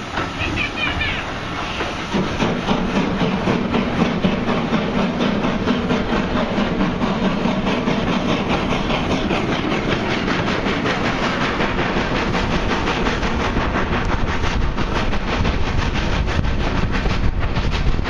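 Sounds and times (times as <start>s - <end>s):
train wheels clicking over rail joints: 0.0s - 18.0s.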